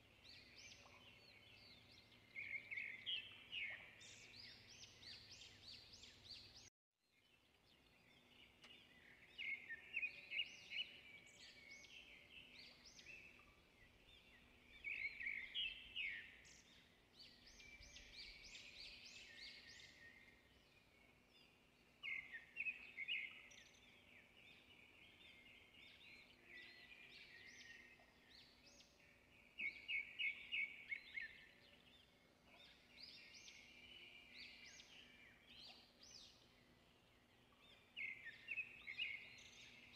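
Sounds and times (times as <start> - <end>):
faint bird chirps: 7.2 - 39.9.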